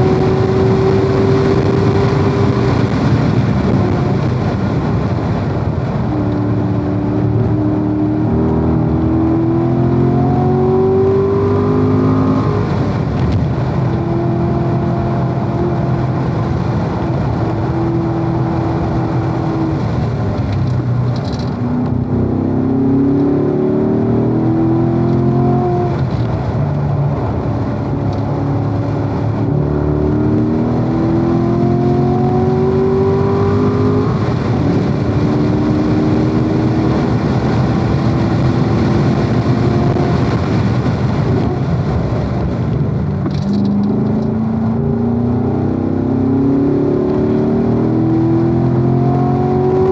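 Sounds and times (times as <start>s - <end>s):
car engine revving hard: 0.0s - 49.9s.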